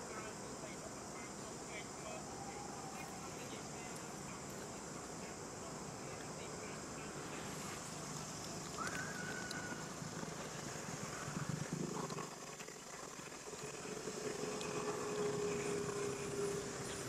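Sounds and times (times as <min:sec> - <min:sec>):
distant motor hum: 0:00.0 - 0:17.0
high insect-like hiss: 0:00.0 - 0:17.0.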